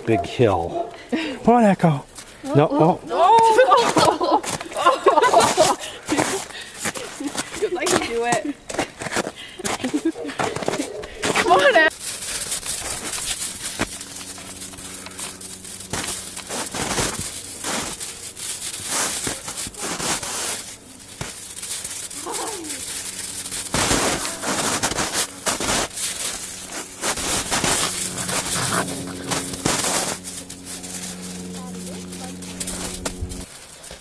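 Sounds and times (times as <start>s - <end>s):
footsteps crunching in snow: 3.2s - 34.0s.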